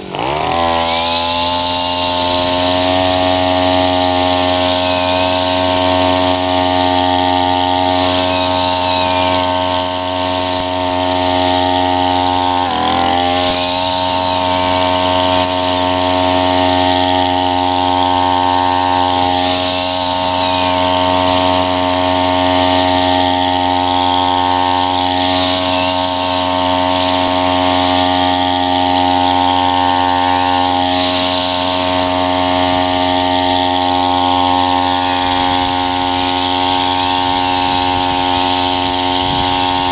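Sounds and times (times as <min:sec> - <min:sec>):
brush cutter running at high revs: 0:00.0 - 0:39.9
grass hissing under cutting head: 0:00.0 - 0:39.9.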